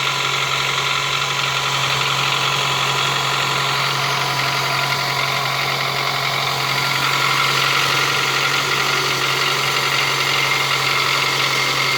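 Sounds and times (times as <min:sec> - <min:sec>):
car engine idling: 0:00.0 - 0:11.9
engine knocking: 0:00.0 - 0:11.9.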